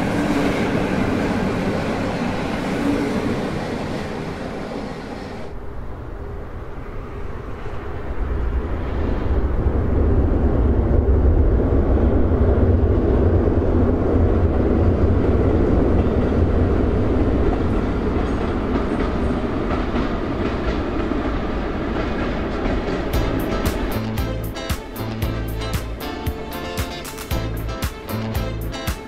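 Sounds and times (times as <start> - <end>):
diesel train rumbling: 0.0 - 5.7, 7.9 - 29.0.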